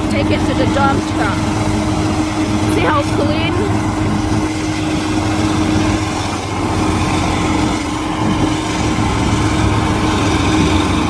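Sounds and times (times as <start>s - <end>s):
harvester engine drone: 0.0s - 11.0s.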